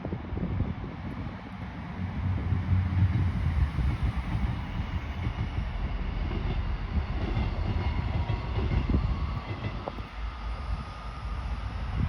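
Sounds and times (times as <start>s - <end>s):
jet engines rumbling: 0.0s - 12.0s
jet engine whine rising: 0.8s - 12.0s.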